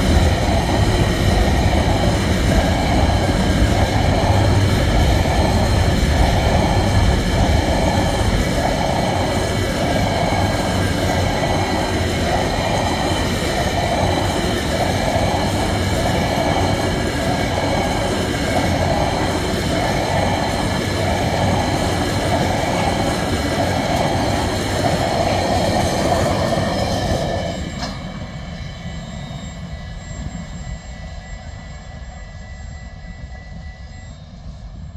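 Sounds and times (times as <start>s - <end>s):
train wheels clattering over rails: 0.0s - 28.2s.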